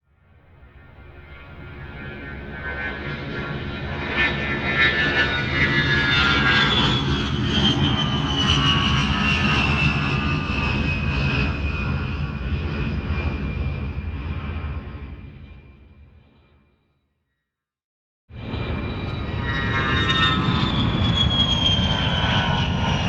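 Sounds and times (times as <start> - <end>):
airplane flying past: 0.1 - 15.8, 18.3 - 23.0.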